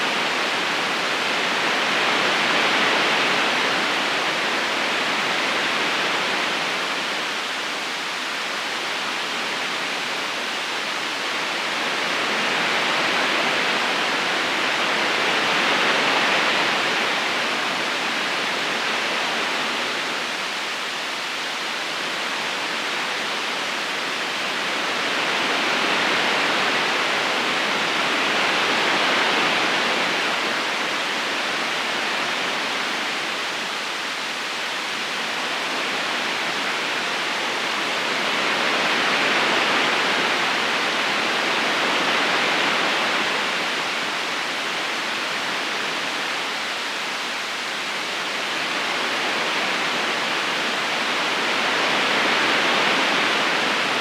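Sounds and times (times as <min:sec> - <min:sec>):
river current rushing: 0:00.0 - 0:54.0.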